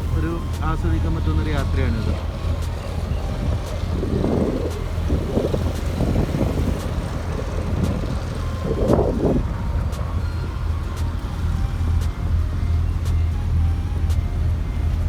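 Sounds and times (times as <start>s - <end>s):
ferry engine droning: 0.0s - 15.0s
wind noise on microphone: 0.0s - 15.0s.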